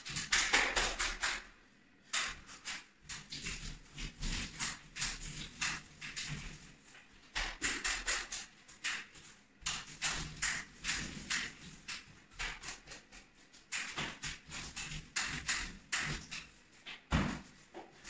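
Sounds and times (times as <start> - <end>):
roller rolling compound on ceiling: 0.0 - 18.0.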